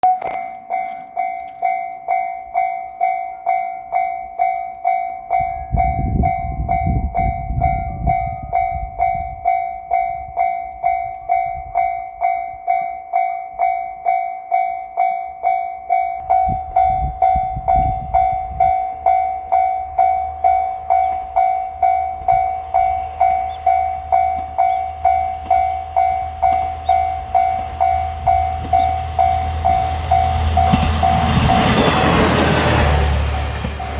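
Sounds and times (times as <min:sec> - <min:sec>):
diesel railcar rumbling: 0:00.0 - 0:12.7, 0:15.8 - 0:33.9
level-crossing warning bell: 0:00.0 - 0:33.9.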